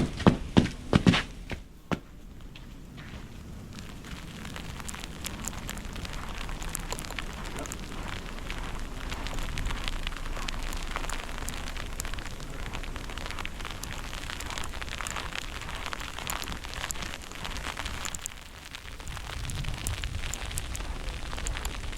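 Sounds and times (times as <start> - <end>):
fine crackling ticks: 2.2 - 21.9
storm wind on microphone: 2.2 - 21.9.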